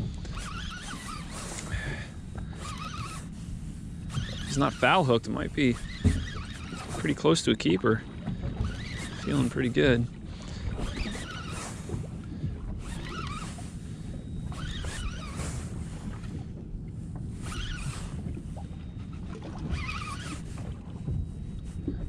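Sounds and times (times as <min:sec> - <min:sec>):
fishing reel whirring: 0:00.0 - 0:16.4, 0:17.3 - 0:20.8
boat motor idling: 0:00.0 - 0:22.0
water: 0:00.0 - 0:22.0
wind: 0:00.0 - 0:22.0.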